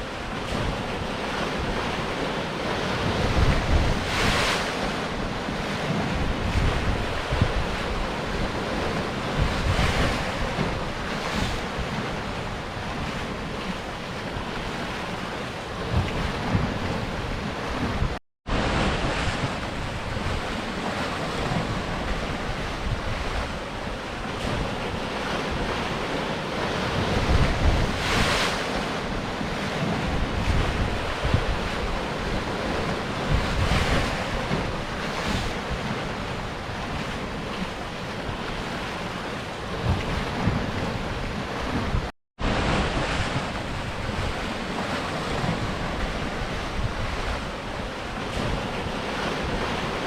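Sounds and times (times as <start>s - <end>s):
sea surf washing against rocks: 0.0s - 50.0s
wind buffeting microphone: 0.0s - 50.0s.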